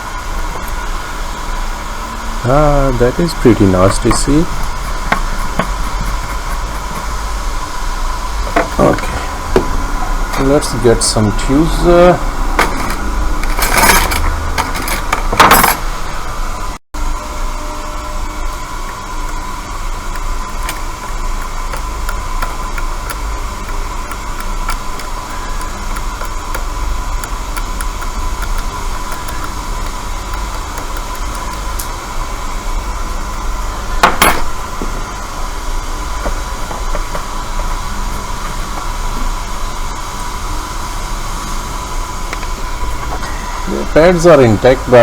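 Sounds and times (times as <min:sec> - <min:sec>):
hot air blower with thin whine: 0:00.0 - 0:45.0.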